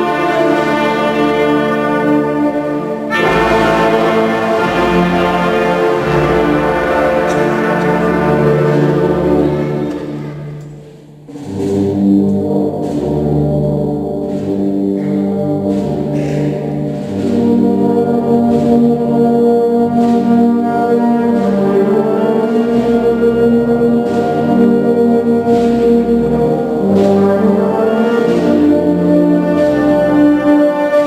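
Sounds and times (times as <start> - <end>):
wind band playing march: 0.0 - 31.0.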